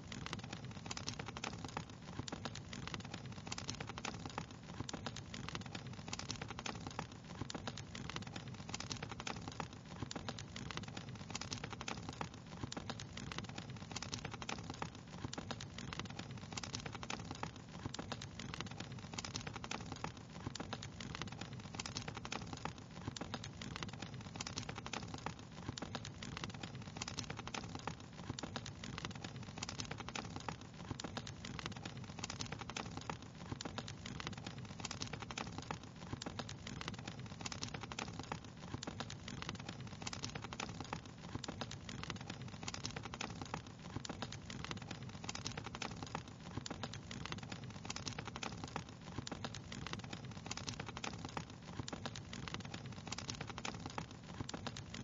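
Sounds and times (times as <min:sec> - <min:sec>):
fire crackling pops and snaps: 0:00.0 - 0:55.0.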